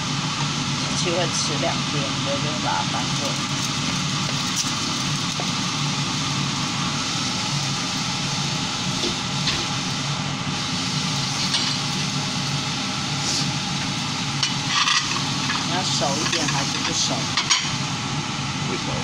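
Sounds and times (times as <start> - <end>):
induction hob humming: 0.0 - 19.0
egg sizzling in a pan: 2.6 - 18.1.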